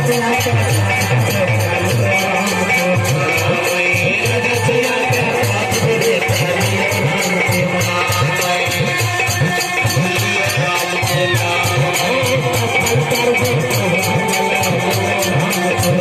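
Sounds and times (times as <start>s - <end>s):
hand drum beat: 0.0s - 16.0s
jingling rattling percussion: 0.0s - 16.0s.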